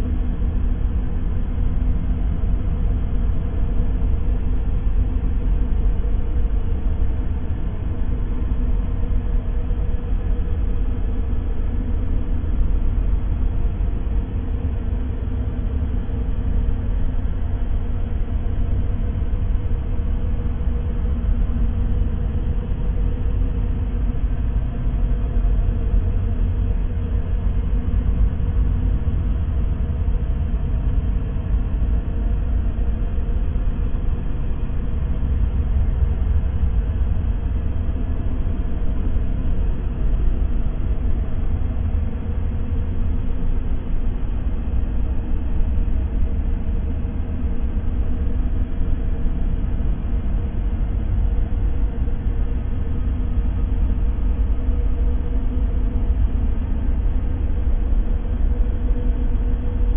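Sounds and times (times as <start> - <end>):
deep white noise: 0.0 - 59.9
faint steady hum: 0.0 - 59.9.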